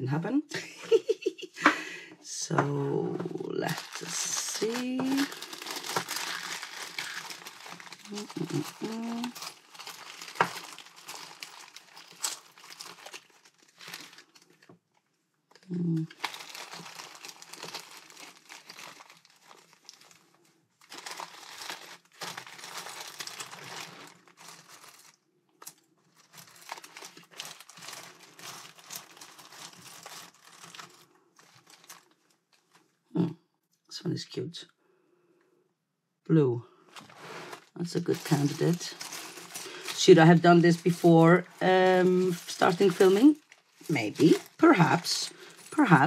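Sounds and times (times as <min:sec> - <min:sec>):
plastic bags crinkling: 0:02.6 - 0:33.0, 0:36.9 - 0:46.0.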